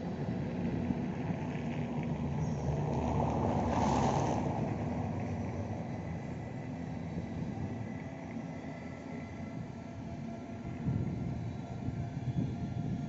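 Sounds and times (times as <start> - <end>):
train passing by rumbling: 0.0 - 13.0.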